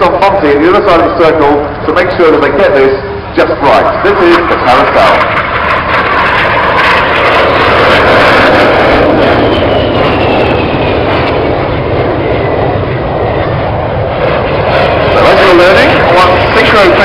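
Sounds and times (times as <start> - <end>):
jets flying past: 0.0 - 17.0.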